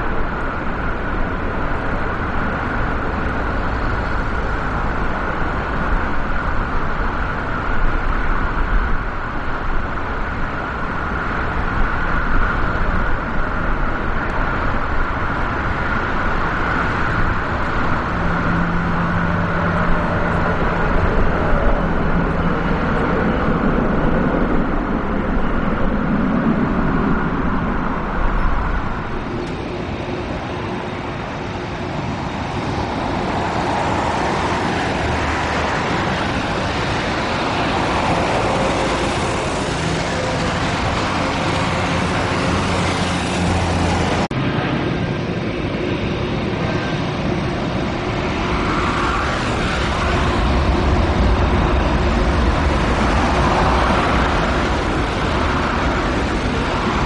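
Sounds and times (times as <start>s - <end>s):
jet engines of taxiing airliners: 0.0s - 57.0s.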